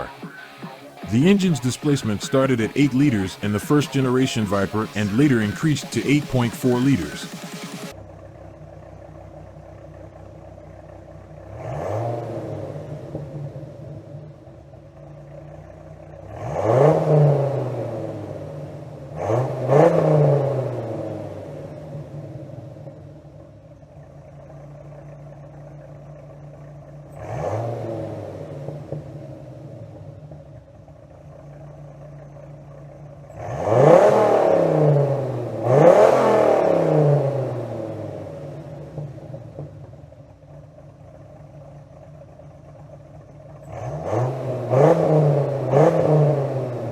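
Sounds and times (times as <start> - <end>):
car engine idling and revving: 3.8 - 46.9.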